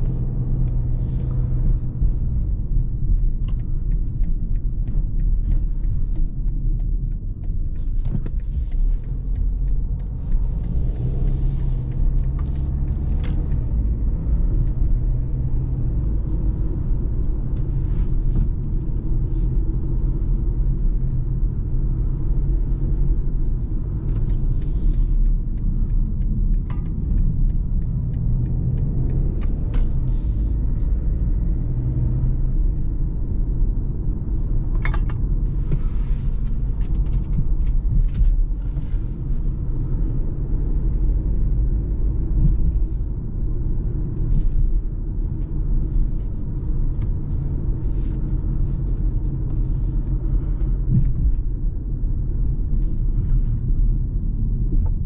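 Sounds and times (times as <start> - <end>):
car engine and tyre rumble: 0.0 - 55.0
faint clicks and knocks: 0.1 - 55.0.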